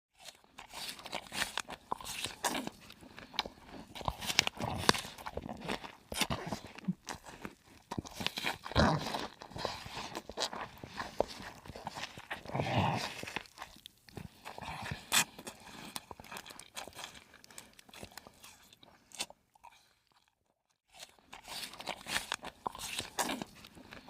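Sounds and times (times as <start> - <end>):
person chewing food: 0.1 - 24.0.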